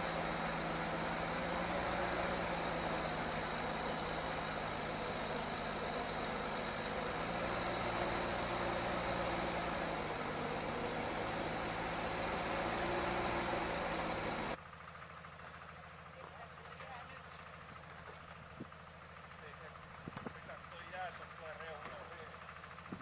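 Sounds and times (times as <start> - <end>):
heavy vehicle engine running: 0.0 - 23.0.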